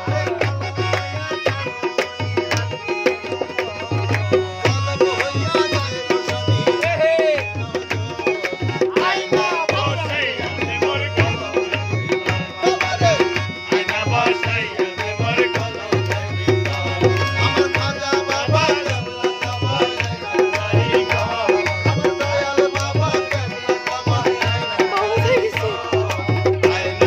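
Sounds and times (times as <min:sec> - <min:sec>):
harmonium chords: 0:00.0 - 0:27.0
man singing: 0:00.0 - 0:27.0
tabla and hand drum beating: 0:00.0 - 0:27.0.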